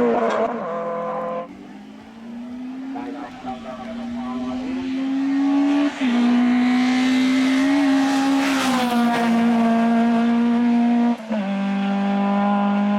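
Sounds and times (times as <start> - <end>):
race car engine at high revs: 0.0 - 12.9.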